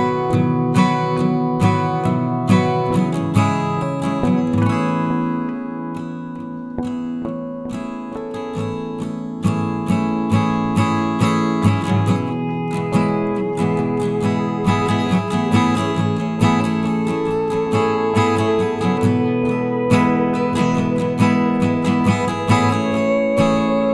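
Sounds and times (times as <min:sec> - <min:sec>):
strummed acoustic guitar: 0:00.0 - 0:23.9.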